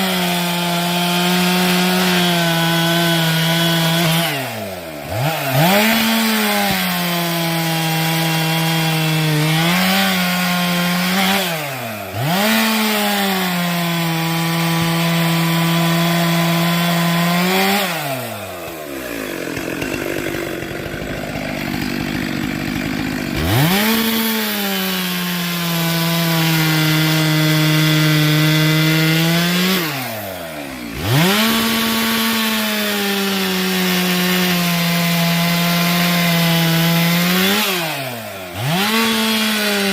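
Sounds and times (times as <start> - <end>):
chainsaw cutting firewood: 0.0 - 39.9.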